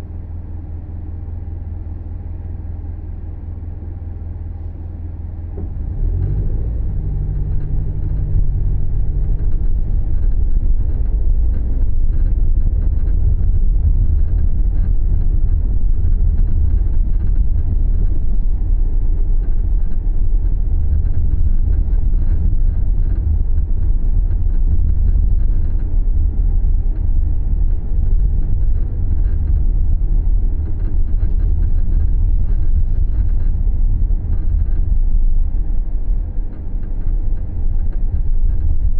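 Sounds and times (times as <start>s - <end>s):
car driving rumble: 0.0s - 38.9s.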